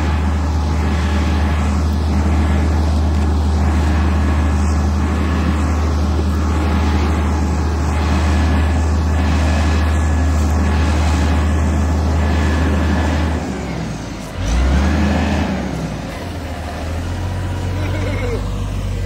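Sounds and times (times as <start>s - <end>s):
heavy engine running: 0.0s - 19.0s.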